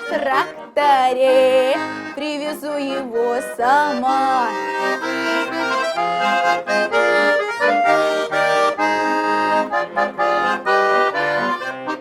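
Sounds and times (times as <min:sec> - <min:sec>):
button accordion playing folk melody: 0:00.0 - 0:12.0.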